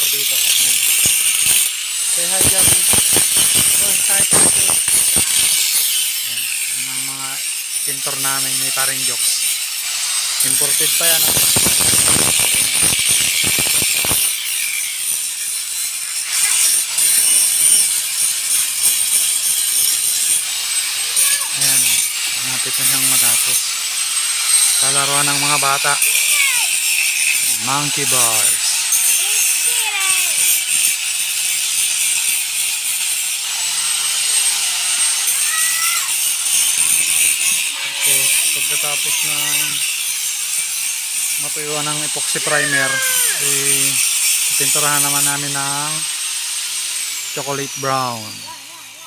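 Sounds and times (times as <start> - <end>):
angle grinder grinding metal: 0.0 - 49.0.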